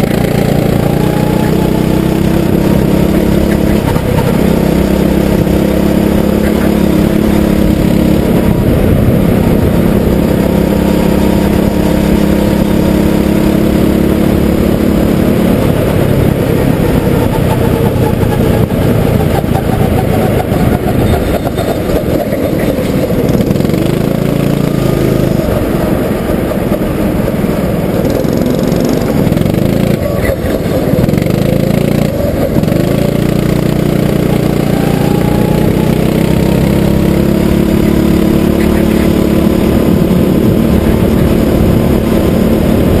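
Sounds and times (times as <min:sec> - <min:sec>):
go-kart engine revving: 0:00.0 - 0:43.0.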